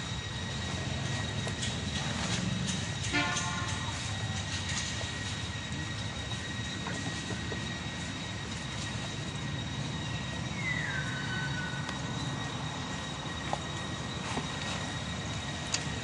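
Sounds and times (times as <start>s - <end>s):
constant high whine: 0.0s - 16.0s.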